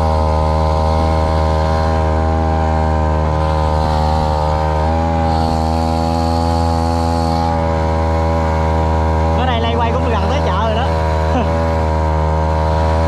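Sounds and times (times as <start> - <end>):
boat engine running at speed: 0.0 - 13.0.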